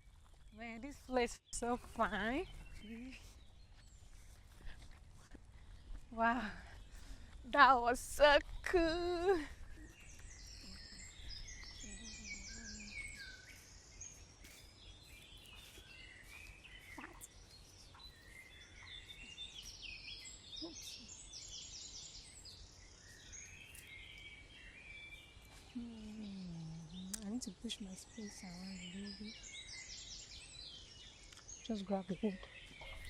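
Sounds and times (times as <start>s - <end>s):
wild birds singing: 0.0s - 33.0s.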